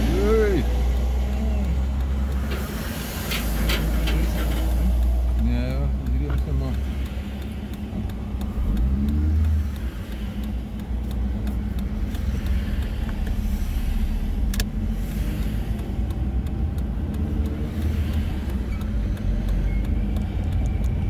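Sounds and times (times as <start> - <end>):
car engine running: 0.0 - 21.0
tyre and road rumble: 0.0 - 21.0.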